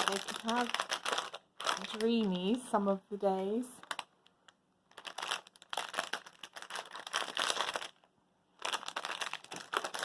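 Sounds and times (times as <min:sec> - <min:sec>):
treat packets crinkling: 0:00.0 - 0:02.8, 0:03.6 - 0:10.0.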